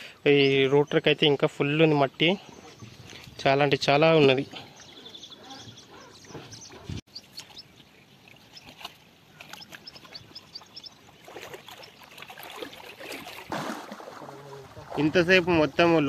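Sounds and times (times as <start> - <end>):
muddy water sloshing and splashing: 2.5 - 16.0.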